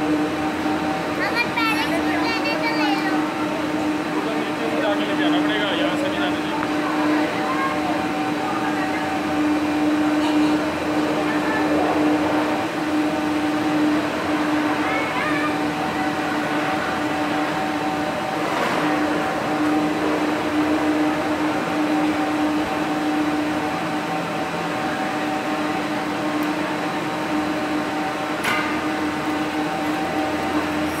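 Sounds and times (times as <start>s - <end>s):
ropeway machinery humming: 0.0s - 31.0s.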